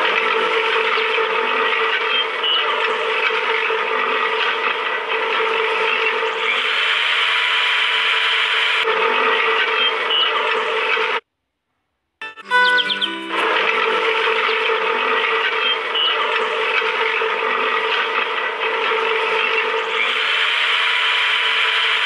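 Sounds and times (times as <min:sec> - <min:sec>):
chaff cutter whirring and chopping: 0:00.0 - 0:11.2, 0:13.3 - 0:22.0.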